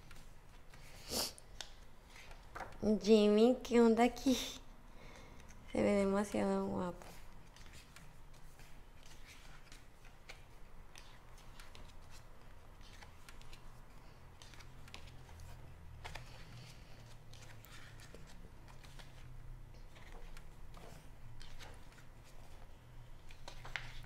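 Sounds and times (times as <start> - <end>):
paper pages turning: 0.0 - 2.8, 7.0 - 24.0.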